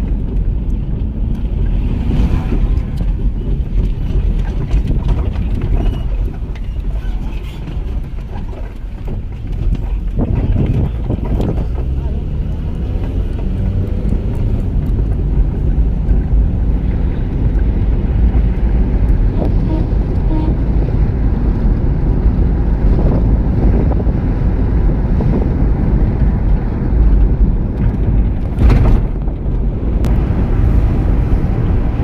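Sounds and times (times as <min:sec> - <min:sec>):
vehicle rumble: 0:00.0 - 0:32.0
wind buffeting microphone: 0:00.0 - 0:32.0.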